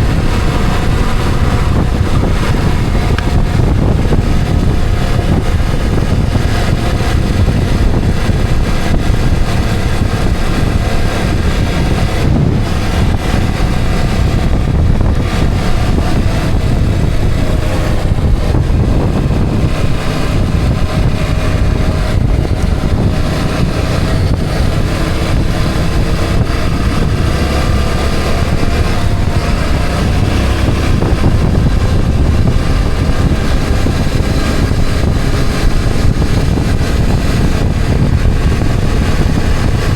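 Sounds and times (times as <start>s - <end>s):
vehicle engine hum: 0.0s - 39.9s
wind rushing over microphone: 0.0s - 39.9s.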